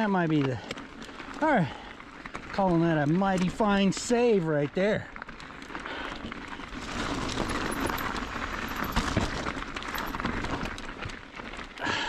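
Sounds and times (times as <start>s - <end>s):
bike rattles and clicks: 0.0s - 12.0s
tyres crunching on gravel: 0.0s - 12.0s.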